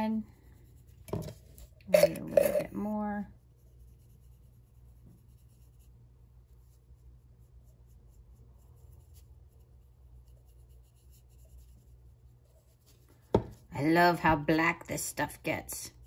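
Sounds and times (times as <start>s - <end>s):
low steady hum: 0.0s - 16.0s
paintbrush scratching: 0.1s - 13.9s.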